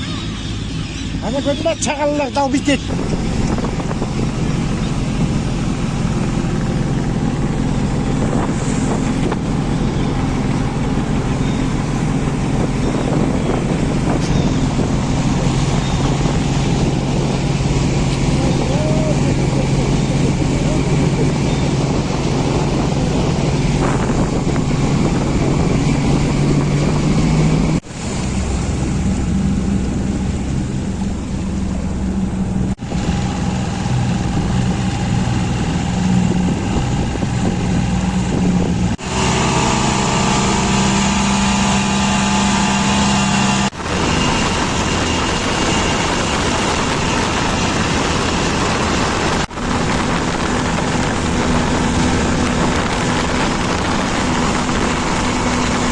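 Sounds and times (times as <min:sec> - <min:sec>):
boat engine running: 0:00.0 - 0:55.9
water noise: 0:00.0 - 0:55.9
wind: 0:00.0 - 0:55.9.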